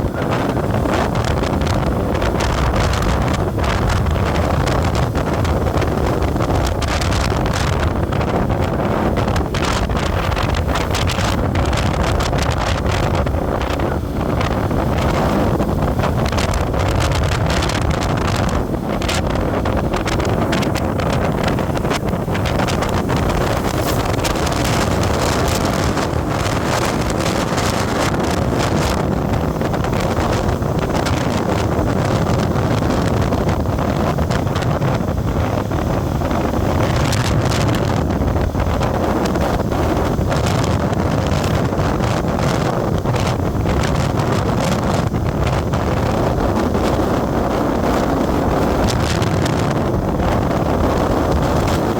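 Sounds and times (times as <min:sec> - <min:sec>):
road and vehicle noise: 0:00.0 - 0:51.9
wind noise on microphone: 0:00.0 - 0:51.9.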